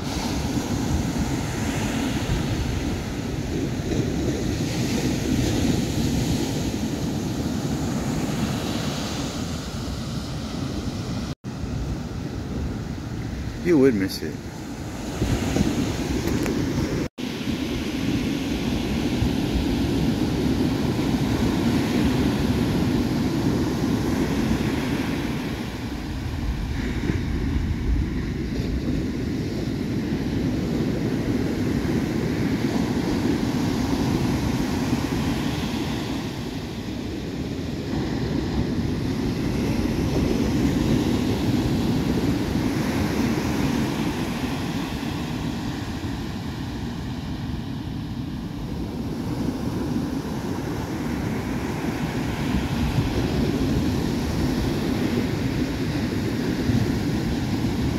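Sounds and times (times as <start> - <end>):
ocean surf breaking: 0.0 - 57.9
wind rumbling on microphone: 0.0 - 57.9.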